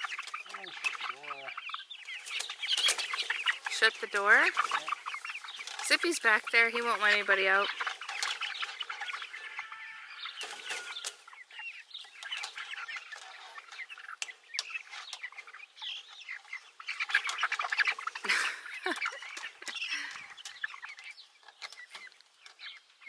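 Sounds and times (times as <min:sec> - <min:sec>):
hens clucking and squawking: 0:00.0 - 0:23.0.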